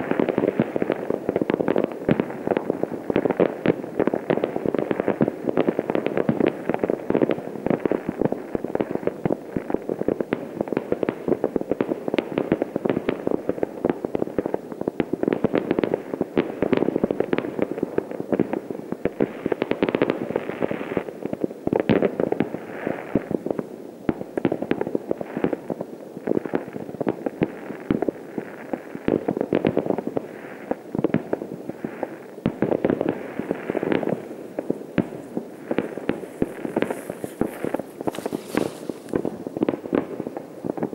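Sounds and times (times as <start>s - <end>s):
distant fireworks crackling: 0.0s - 40.9s.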